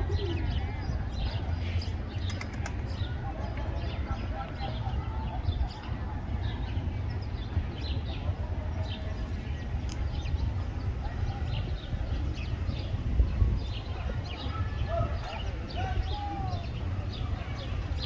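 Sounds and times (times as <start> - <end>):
sparrows chirping: 0.0 - 18.0.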